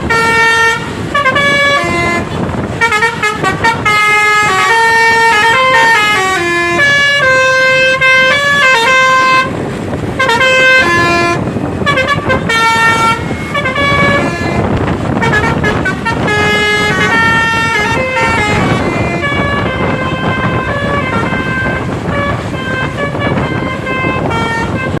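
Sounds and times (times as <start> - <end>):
bus horn playing a melody: 0.0 - 25.0.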